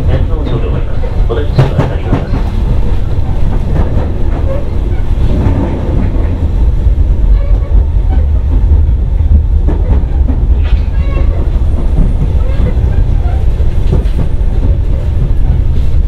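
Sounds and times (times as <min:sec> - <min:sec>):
train motors and wheels rumbling: 0:00.0 - 0:16.0.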